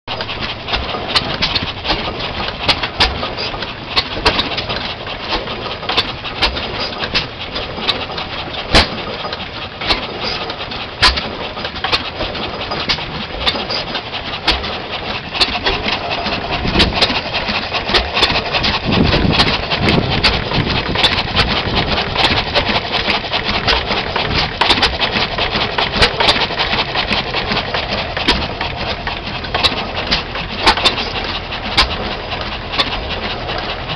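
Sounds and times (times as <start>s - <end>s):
engine exhaust beats: 0.1s - 33.9s.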